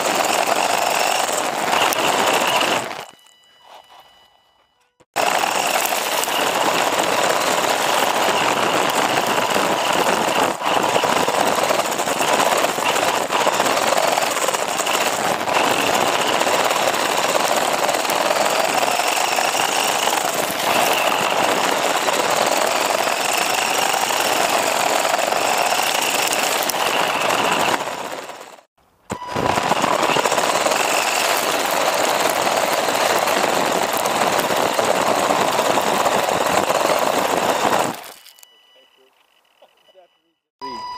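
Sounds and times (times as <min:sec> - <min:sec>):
toy car rattling on gravel: 0:00.0 - 0:03.3, 0:05.1 - 0:39.1
electric motor whine: 0:00.0 - 0:04.1, 0:05.2 - 0:38.4.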